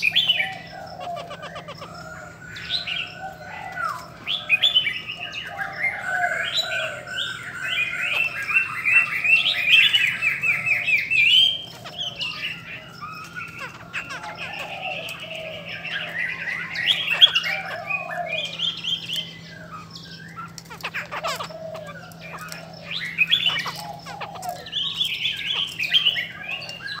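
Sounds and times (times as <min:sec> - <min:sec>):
birds whistling and squawking: 0:00.0 - 0:27.0.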